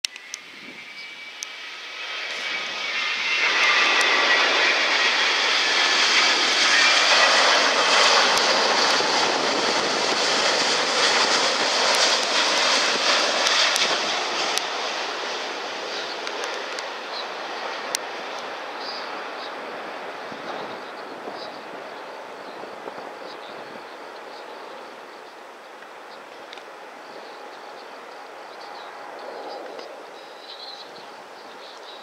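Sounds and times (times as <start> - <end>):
jet engine whine: 0.0 - 32.0.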